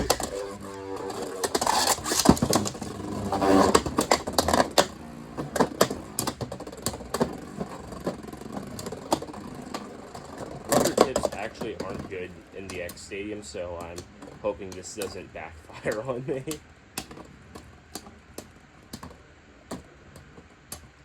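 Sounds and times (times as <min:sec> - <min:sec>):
spinning tops whirring: 0:00.0 - 0:19.7.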